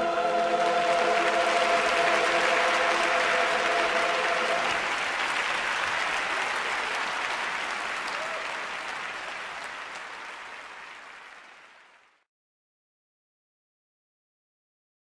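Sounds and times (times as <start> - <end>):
large audience applauding: 0.0 - 12.3.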